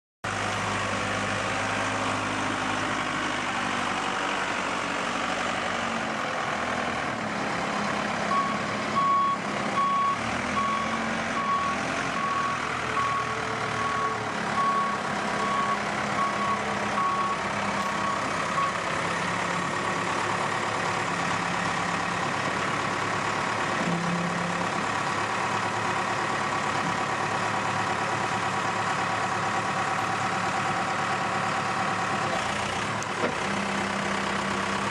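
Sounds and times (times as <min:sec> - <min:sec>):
diesel engine running: 0:00.3 - 0:34.9.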